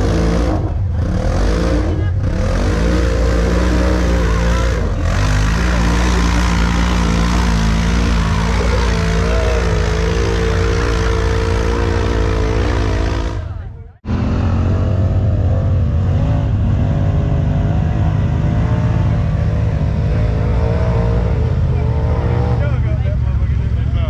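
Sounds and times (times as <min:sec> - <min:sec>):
engine at high revs under load: 0:00.0 - 0:22.8.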